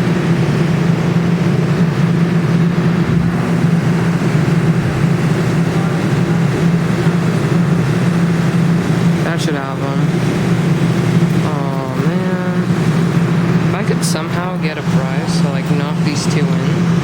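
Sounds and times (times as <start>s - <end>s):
claw machine humming: 0.0s - 17.0s
noisy haze: 0.0s - 17.0s.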